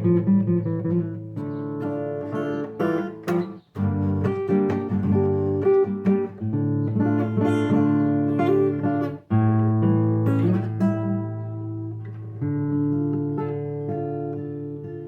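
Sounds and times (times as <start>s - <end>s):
solo instrumental waltz: 0.0s - 15.0s.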